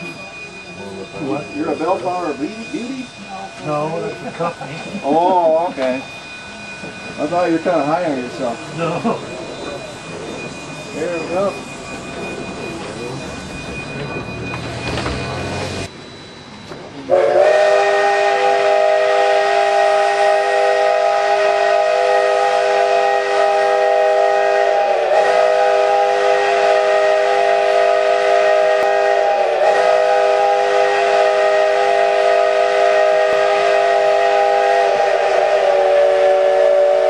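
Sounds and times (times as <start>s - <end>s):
steam locomotive whistle chord: 0.0s - 37.0s.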